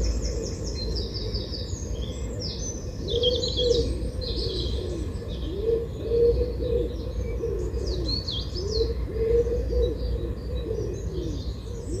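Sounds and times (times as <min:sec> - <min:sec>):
bird cooing: 0:00.0 - 0:12.0
birds chirping and twittering: 0:00.0 - 0:12.0.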